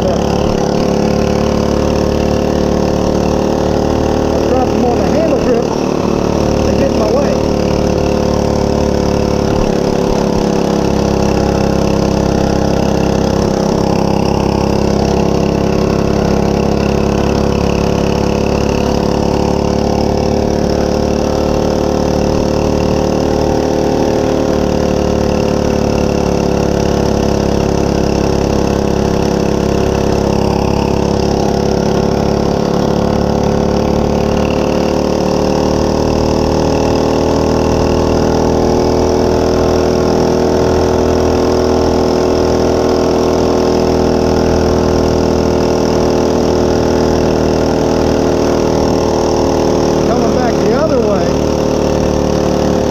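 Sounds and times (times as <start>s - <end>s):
mini bike engine running: 0.0s - 52.9s.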